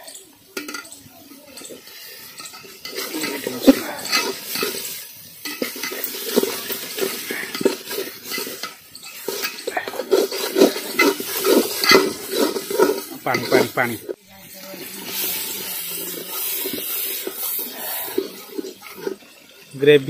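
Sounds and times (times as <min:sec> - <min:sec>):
metal spatula scraping a pot: 0:00.0 - 0:19.8.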